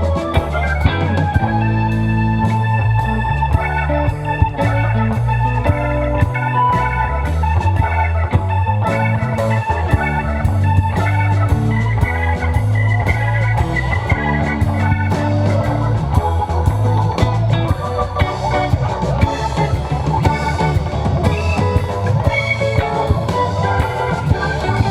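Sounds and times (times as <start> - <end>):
bass line: 0.0 - 24.9
guitar: 0.0 - 24.9
steady drums: 0.0 - 24.9.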